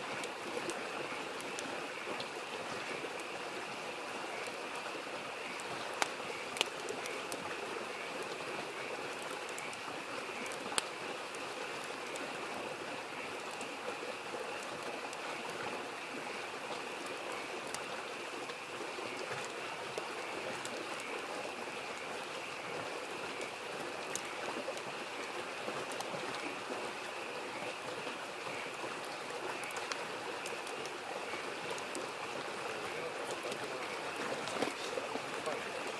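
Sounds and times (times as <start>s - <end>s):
campfire crackling and popping: 0.0s - 35.9s
creek babbling: 0.0s - 35.9s
frogs croaking chorus: 0.0s - 35.9s.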